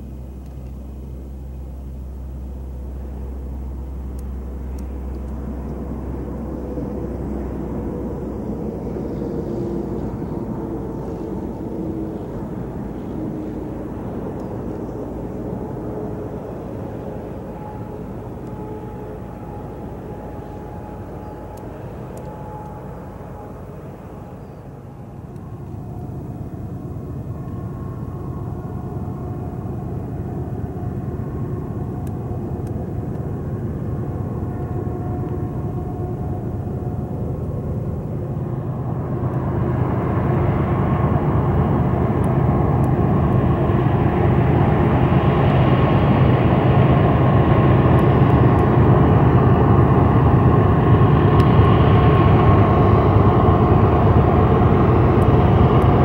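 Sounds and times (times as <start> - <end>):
diesel locomotive engines droning: 0.0 - 56.0.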